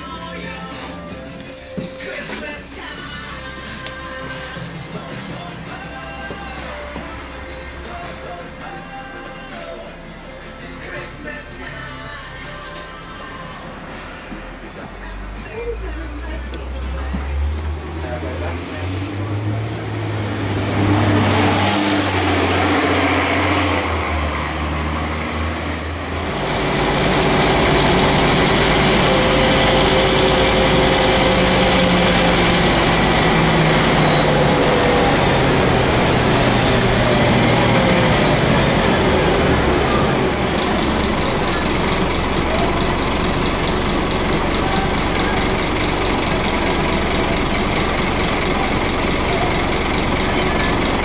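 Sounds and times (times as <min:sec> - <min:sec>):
bus engine and road rumble: 0:00.0 - 0:51.0
bus engine idling: 0:00.0 - 0:51.0
high whine: 0:00.0 - 0:51.0.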